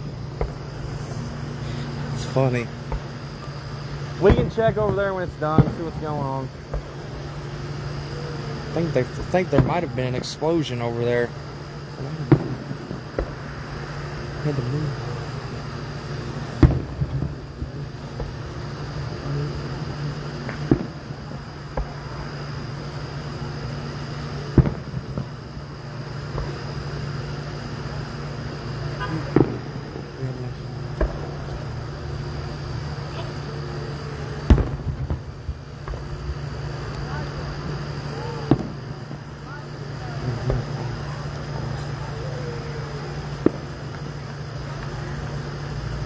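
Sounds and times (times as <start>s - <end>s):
distant fireworks booming: 0.0s - 46.0s.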